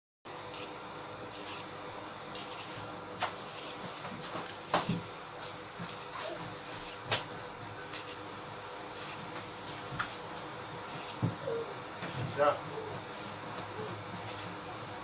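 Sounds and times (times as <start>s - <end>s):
steady low hum: 0.3s - 15.0s.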